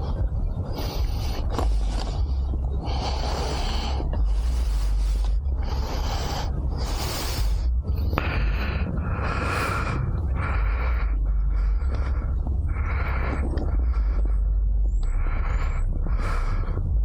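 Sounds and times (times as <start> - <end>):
breathing inside helmet: 0.0 - 17.0
steady low rumble: 0.0 - 17.0.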